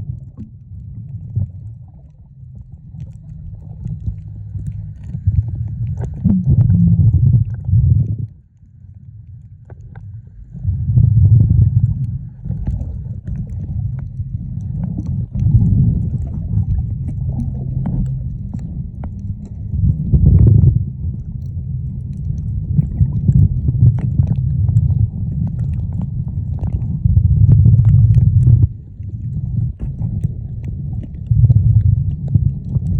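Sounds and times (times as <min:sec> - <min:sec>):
muffled underwater water rumble: 0:00.0 - 0:32.9.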